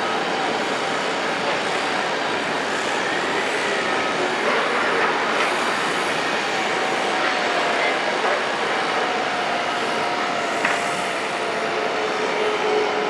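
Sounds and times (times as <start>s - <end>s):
steel wheels running on rails: 0.0s - 13.0s.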